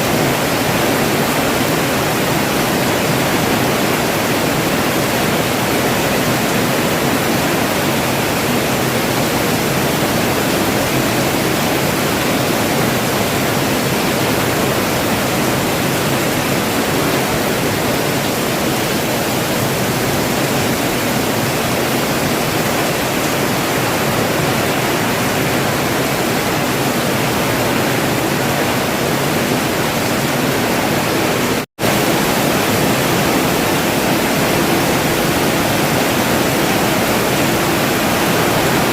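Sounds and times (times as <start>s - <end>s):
heavy rainfall hiss: 0.0s - 38.9s.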